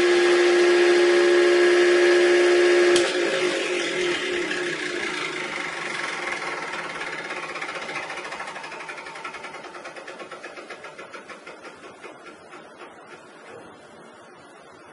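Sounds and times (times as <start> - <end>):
air conditioner fan and motor: 0.0 - 14.9.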